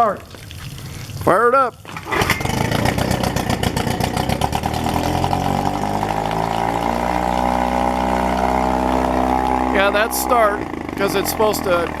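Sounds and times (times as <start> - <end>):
outboard motor running fast: 1.9 - 12.0.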